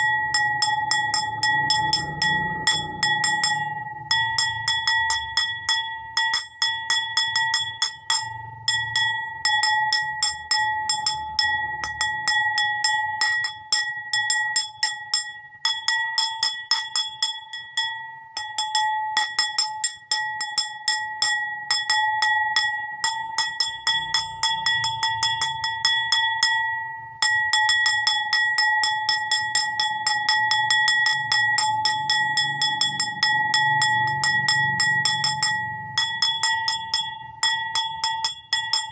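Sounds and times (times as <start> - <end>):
bowl clinking when struck: 0.0 - 38.9
bowl high ringing tone: 0.0 - 38.9.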